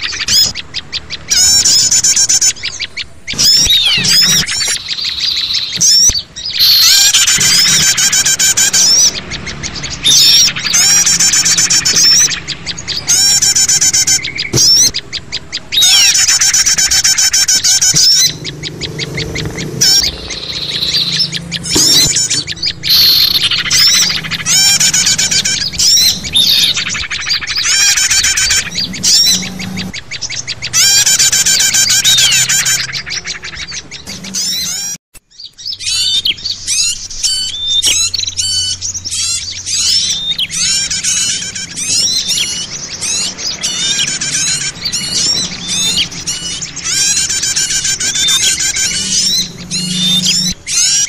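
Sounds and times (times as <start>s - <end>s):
songbirds chirping and trilling: 0.0s - 51.0s.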